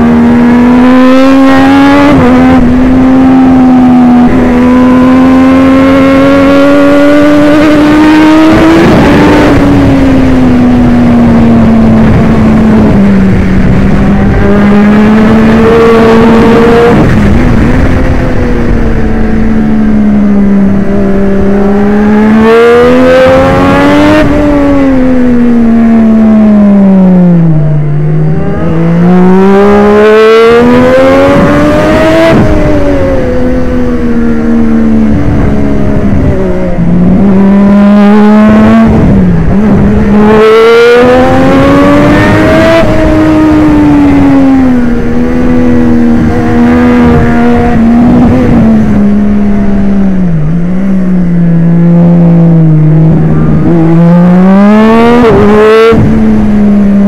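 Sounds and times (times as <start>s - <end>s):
motorcycle engine revving through gears: 0.0s - 57.0s.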